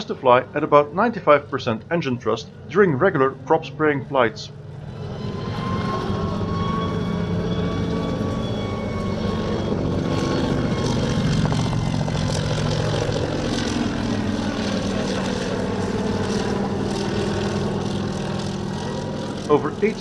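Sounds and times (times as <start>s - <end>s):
helicopter in flight: 0.0s - 20.0s.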